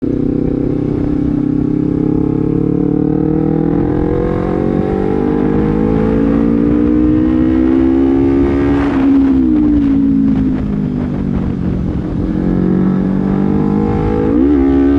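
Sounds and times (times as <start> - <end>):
motorcycle engine accelerating: 0.0 - 14.9.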